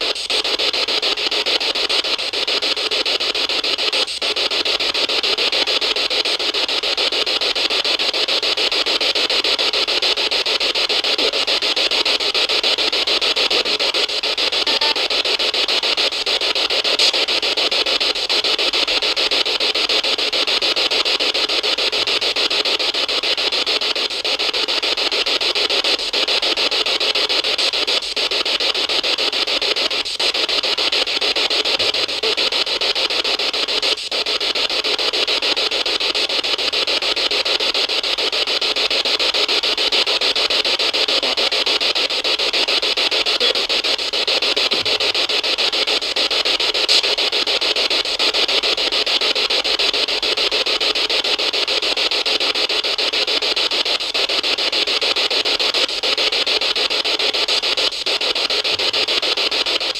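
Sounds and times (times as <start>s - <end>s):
loud static hiss: 0.0s - 59.9s.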